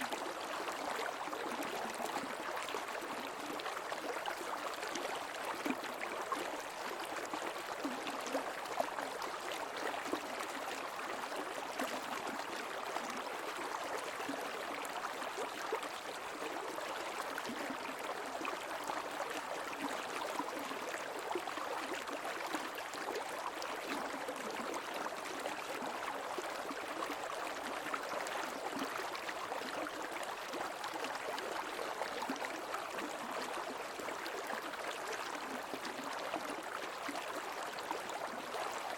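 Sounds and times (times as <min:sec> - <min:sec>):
creek water flowing over rocks: 0:00.0 - 0:38.9.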